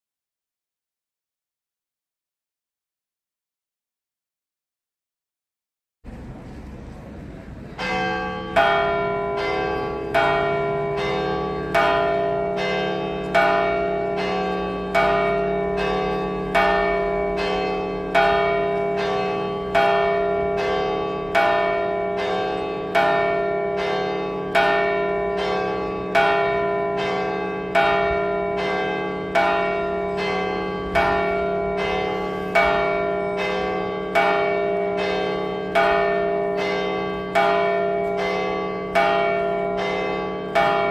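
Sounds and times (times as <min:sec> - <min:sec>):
church bell tolling: 0:07.8 - 0:40.9.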